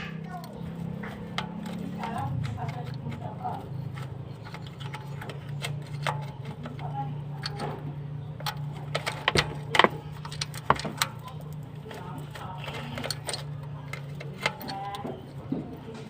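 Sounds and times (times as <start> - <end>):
low hum: 0.0 - 16.0
sharp clicks and knocks: 0.0 - 16.0.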